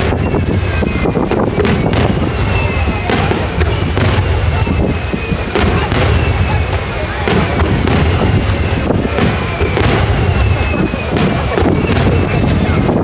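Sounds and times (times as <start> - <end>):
deep rolling rumble: 0.0 - 13.0
firework shells bursting: 0.0 - 13.0
firework whistles: 0.0 - 13.0.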